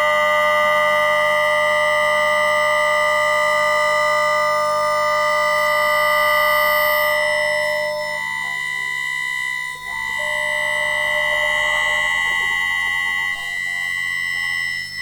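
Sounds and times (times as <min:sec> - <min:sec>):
electric inverter whine: 0:00.0 - 0:15.0.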